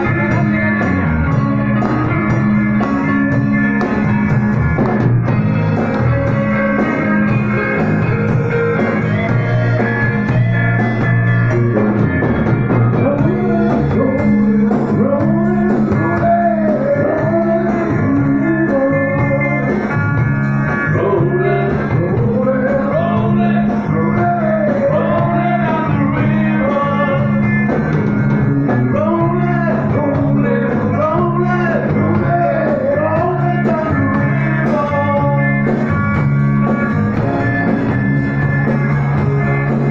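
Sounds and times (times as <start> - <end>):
blues-rock band playing: 0.0 - 39.9
electric guitar bending notes: 0.0 - 39.9.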